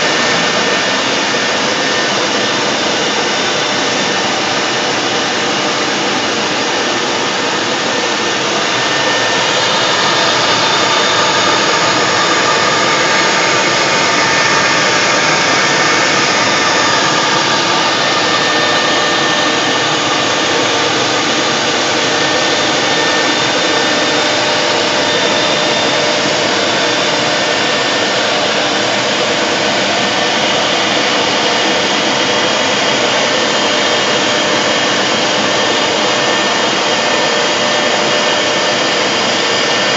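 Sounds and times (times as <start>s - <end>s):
faint high whine: 0.0s - 39.9s
router spindle machining: 0.0s - 39.9s.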